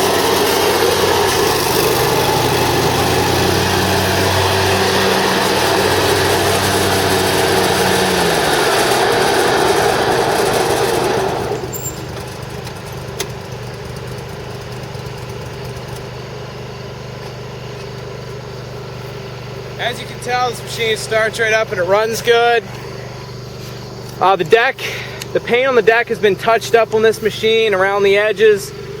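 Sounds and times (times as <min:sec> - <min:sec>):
mower engine running: 0:00.0 - 0:29.0.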